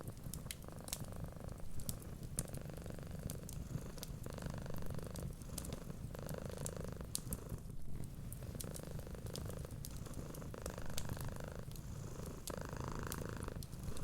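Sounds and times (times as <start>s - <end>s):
cat purring: 0.0s - 14.0s
fireplace crackles and pops: 0.0s - 14.0s.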